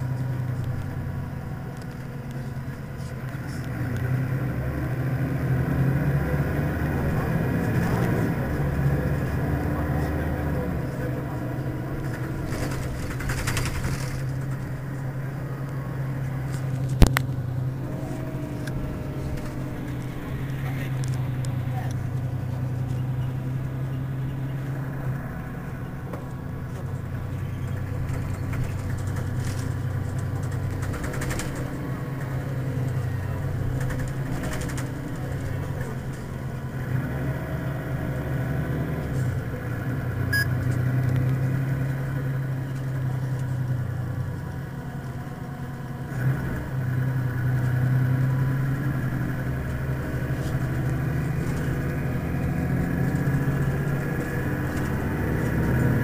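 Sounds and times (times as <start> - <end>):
bus engine idling: 0.0 - 56.0.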